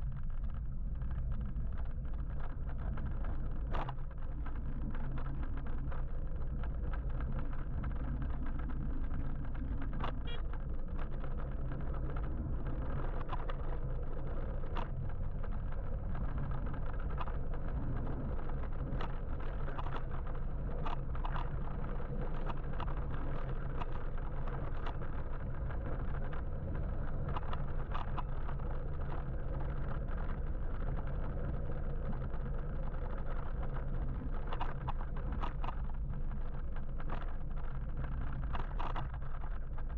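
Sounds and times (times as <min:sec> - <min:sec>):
electric motorbike road noise: 0:00.0 - 0:39.9
light clicks and ticks: 0:00.0 - 0:39.9.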